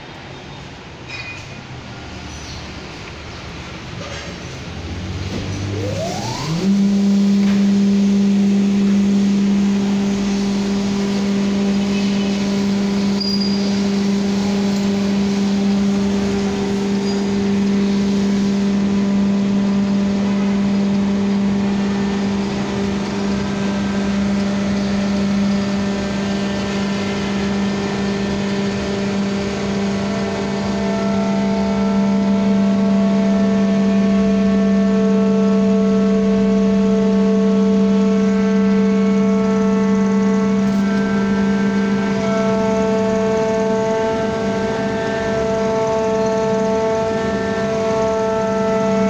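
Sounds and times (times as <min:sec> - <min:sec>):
hydraulic pump whining and humming: 0:00.0 - 0:49.0.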